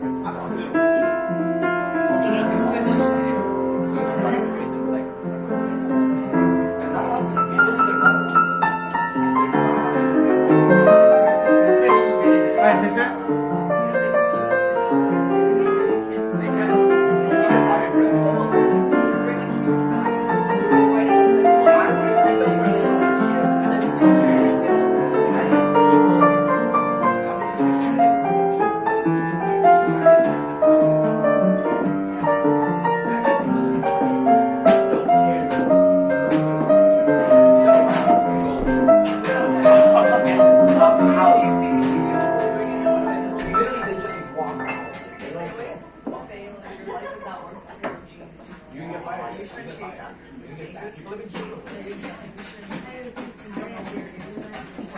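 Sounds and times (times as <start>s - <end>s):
jazz piano playing: 0.0s - 46.7s
chatter of bar patrons: 0.0s - 54.9s.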